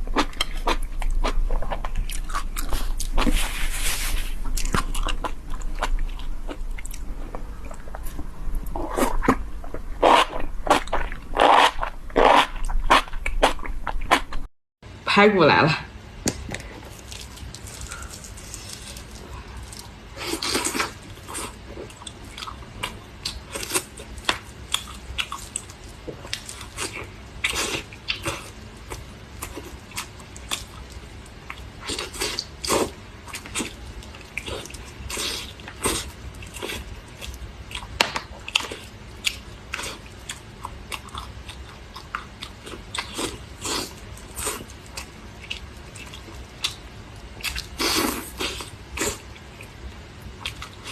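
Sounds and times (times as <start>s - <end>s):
person chewing ribs: 0.0s - 3.6s, 4.4s - 14.4s, 16.5s - 50.9s.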